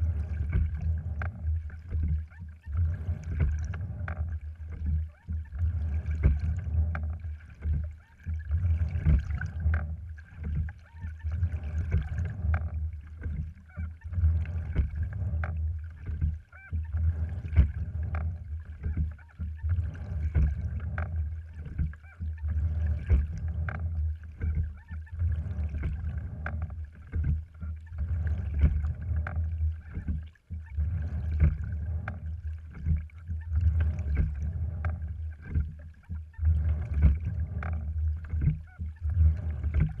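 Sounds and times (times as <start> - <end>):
steady low rumble: 0.0 - 40.0
water washing along hull: 0.0 - 40.0.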